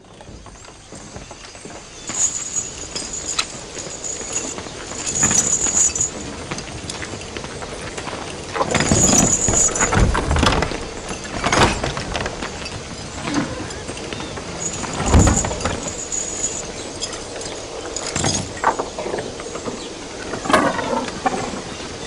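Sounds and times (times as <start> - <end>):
chains clinking and rattling: 0.6 - 20.0.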